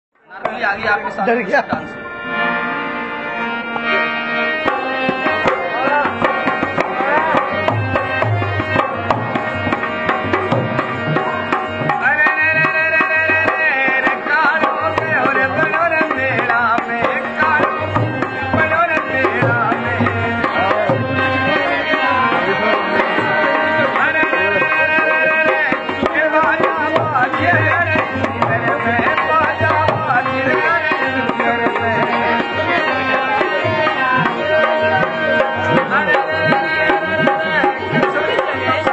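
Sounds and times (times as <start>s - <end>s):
folk melody with long notes: 0.2s - 38.9s.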